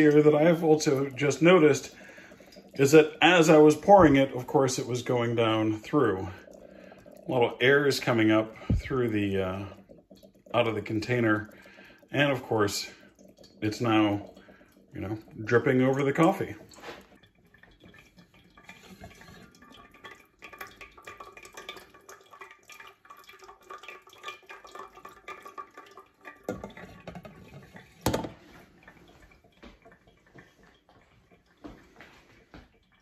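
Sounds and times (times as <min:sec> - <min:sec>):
water dripping into pot: 0:00.0 - 0:33.0.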